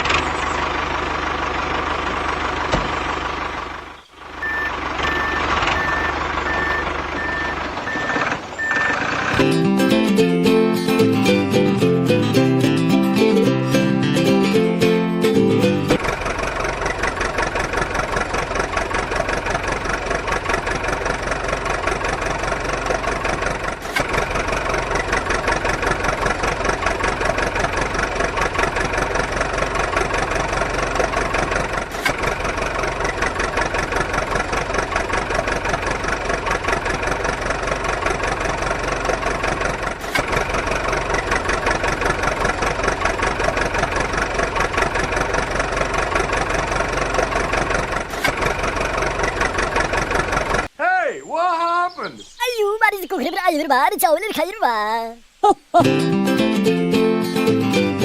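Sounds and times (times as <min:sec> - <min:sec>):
small engine idling: 0:00.0 - 0:50.7.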